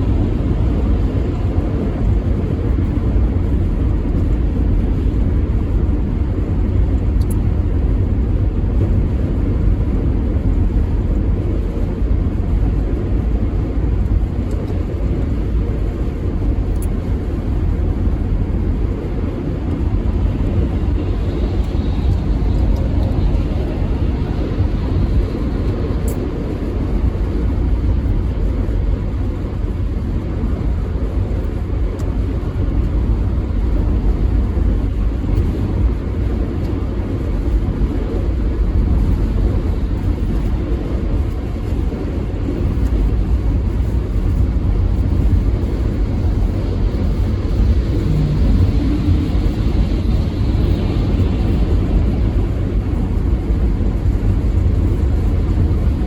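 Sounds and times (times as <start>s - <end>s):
low vehicle rumble: 0.0s - 56.0s.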